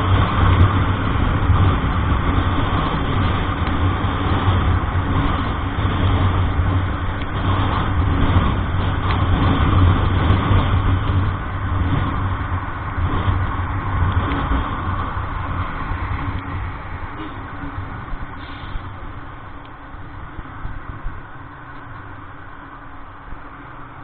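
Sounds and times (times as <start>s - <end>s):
road noise: 0.0s - 24.0s
vehicle engine running: 0.0s - 24.0s.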